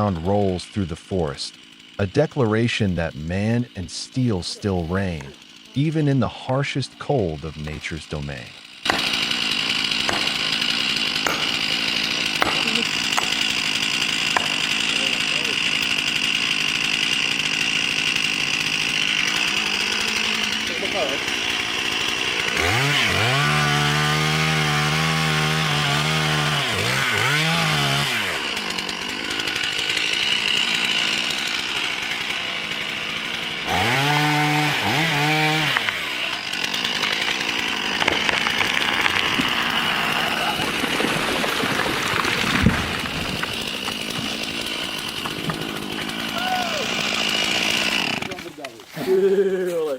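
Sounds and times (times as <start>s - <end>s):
chainsaw engine revving: 0.0s - 49.9s.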